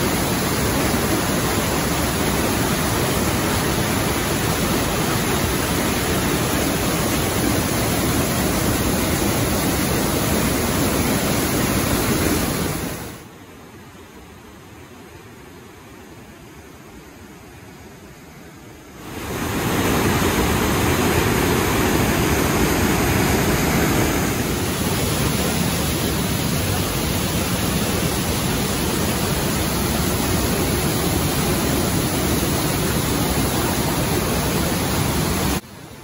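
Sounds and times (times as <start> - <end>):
waterfall rushing: 0.0 - 13.3, 18.9 - 36.0.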